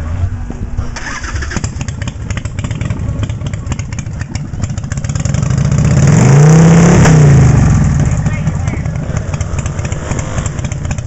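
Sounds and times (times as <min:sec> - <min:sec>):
motorcycle engine idling and revving: 0:00.0 - 0:11.0.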